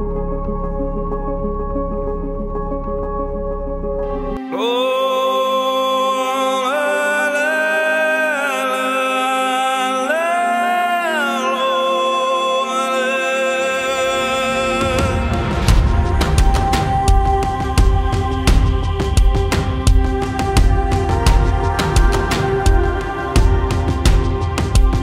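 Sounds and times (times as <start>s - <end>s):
low drone: 0.0s - 25.0s.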